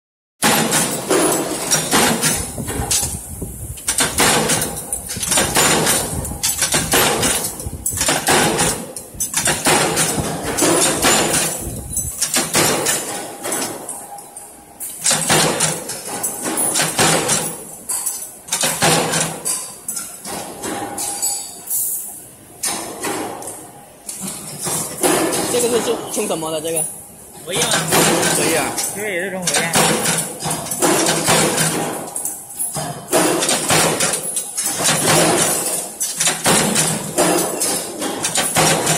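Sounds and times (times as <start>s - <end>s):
punch press clanking: 0.4s - 3.2s, 3.8s - 14.1s, 14.8s - 21.6s, 27.5s - 38.9s.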